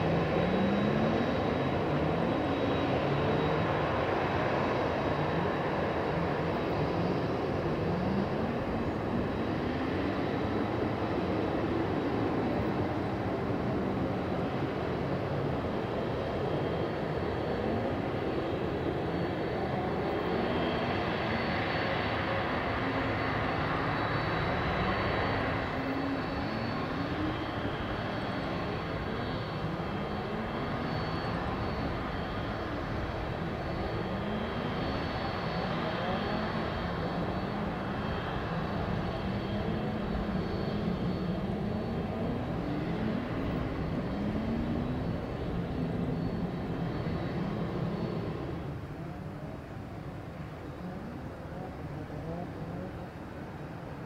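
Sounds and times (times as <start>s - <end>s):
jet engines rumbling: 0.0s - 54.0s
thin high engine whine: 0.0s - 54.0s.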